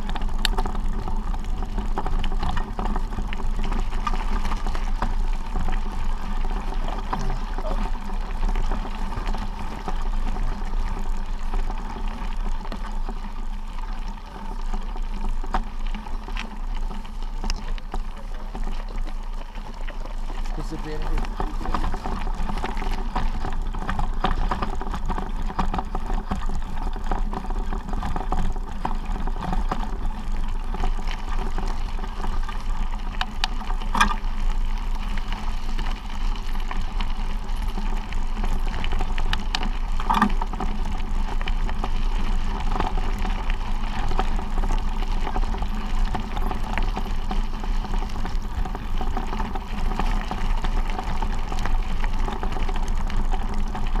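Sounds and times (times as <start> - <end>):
vehicle travelling over gravel: 0.0 - 54.0.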